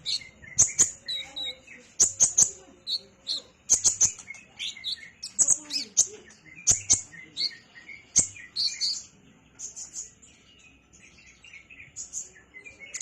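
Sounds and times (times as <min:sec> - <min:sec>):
bird chips and twittering trills: 0:00.0 - 0:13.0.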